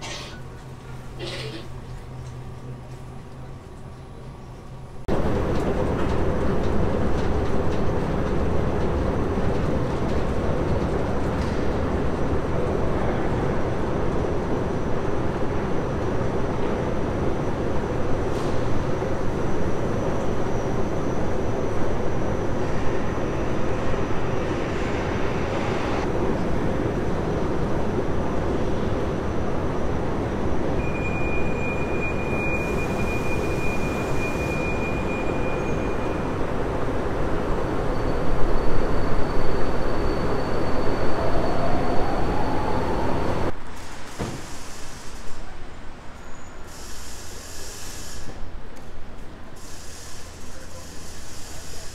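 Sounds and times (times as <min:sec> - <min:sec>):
metro train rumble: 0:00.0 - 0:51.9
quiet street sound: 0:00.0 - 0:51.9.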